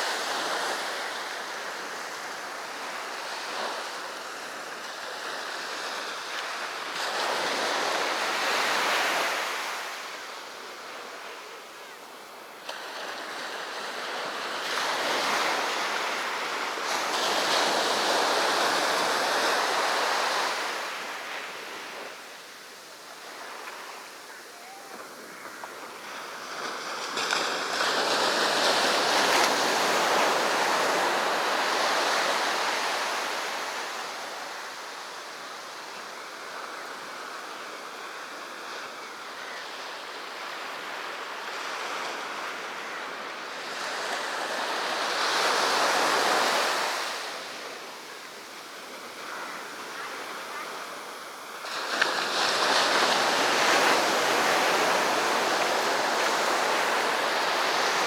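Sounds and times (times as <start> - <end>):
sea waves breaking on a beach: 0.0 - 58.0.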